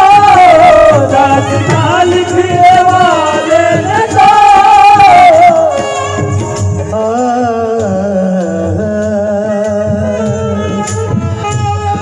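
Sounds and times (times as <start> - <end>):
harmonium melody: 0.0 - 12.0.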